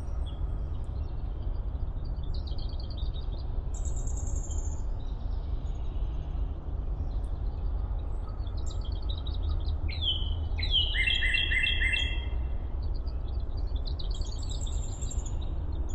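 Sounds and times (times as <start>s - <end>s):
steady low rumble: 0.0s - 10.6s, 12.2s - 15.9s
songbirds chirping and trilling: 0.0s - 15.9s.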